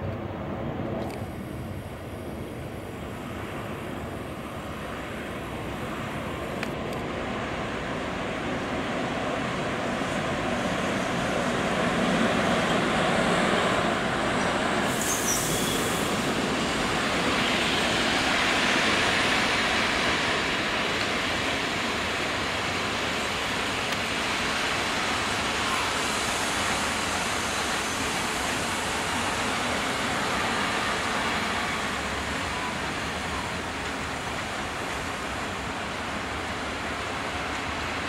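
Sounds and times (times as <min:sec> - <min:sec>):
freight train rumbling on tracks: 0:00.0 - 0:38.0.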